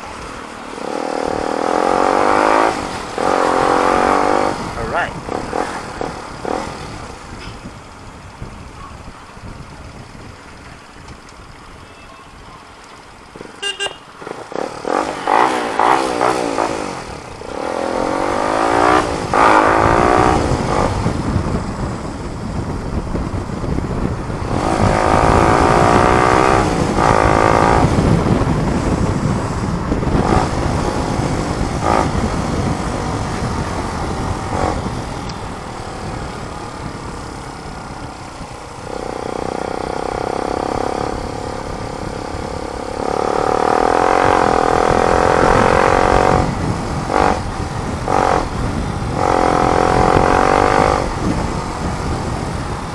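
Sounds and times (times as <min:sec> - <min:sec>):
motorcycle engine accelerating: 0:00.0 - 0:11.6, 0:13.3 - 0:52.9
low wind rumble: 0:00.0 - 0:52.9.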